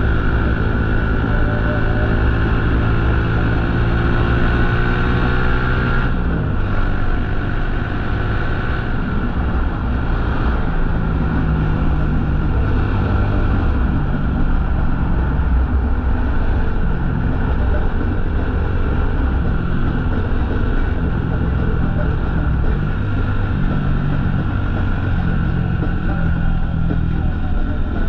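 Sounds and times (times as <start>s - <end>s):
motorcycle engine cruising: 0.0s - 28.0s
wind and road noise: 0.0s - 28.0s.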